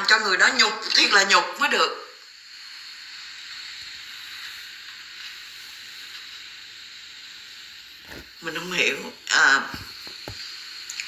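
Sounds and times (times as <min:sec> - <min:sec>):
steady high-pitched hiss: 0:00.0 - 0:11.0.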